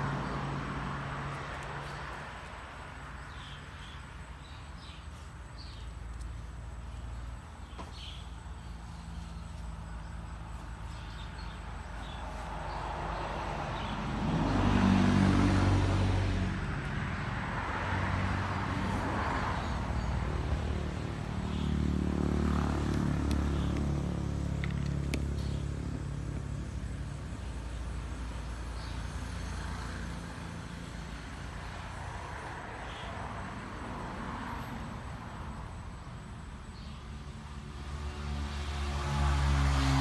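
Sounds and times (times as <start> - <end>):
vehicles passing by: 0.0 - 40.0.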